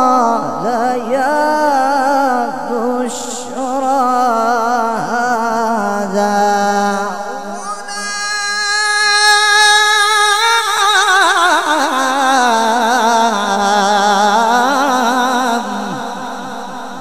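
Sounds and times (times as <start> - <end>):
man chanting melodic recitation: 0.0 - 17.0.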